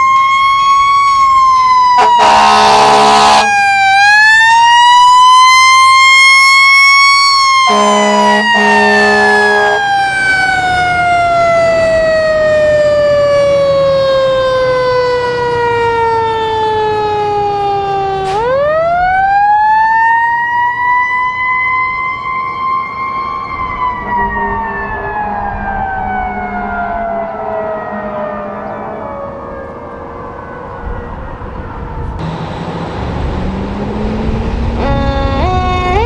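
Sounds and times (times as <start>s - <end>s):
fire engine siren winding: 0.0s - 31.2s, 34.6s - 36.0s.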